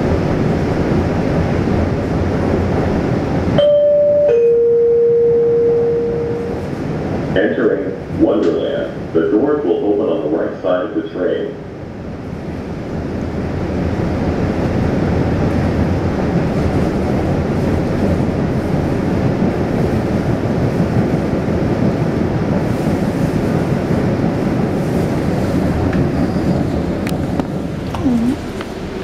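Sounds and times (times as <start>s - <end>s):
subway wheels rolling on rail: 0.0s - 29.0s.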